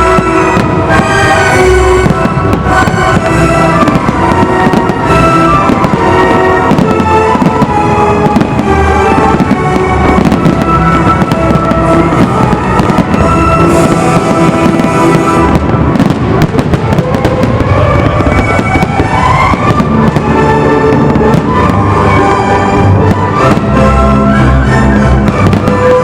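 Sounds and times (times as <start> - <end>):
firework bursts and bangs: 0.0 - 26.0
loud melodic music: 0.0 - 26.0.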